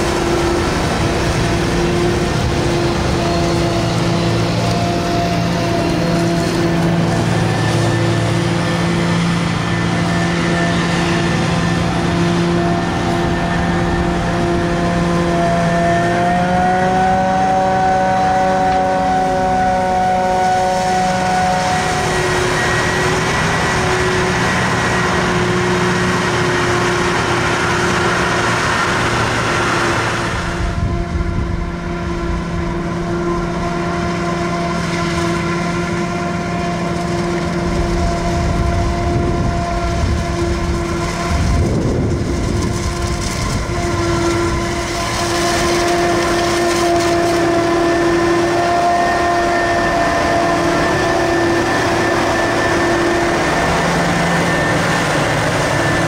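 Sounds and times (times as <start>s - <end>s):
harvest machinery whining: 0.0s - 56.0s.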